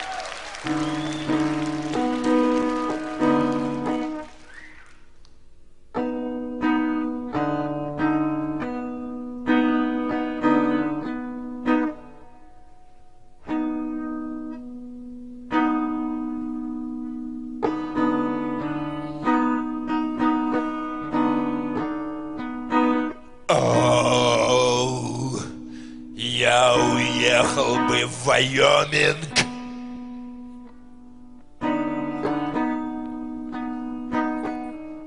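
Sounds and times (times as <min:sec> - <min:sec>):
guitar chords ringing: 0:00.9 - 0:04.2, 0:05.9 - 0:35.0.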